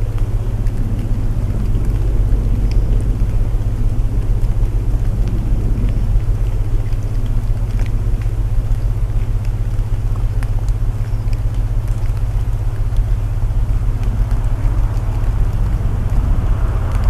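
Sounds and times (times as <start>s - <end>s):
burning wood crackling: 0.0s - 17.0s
low binaural tone hum: 0.0s - 17.0s
rain hiss: 0.0s - 17.0s.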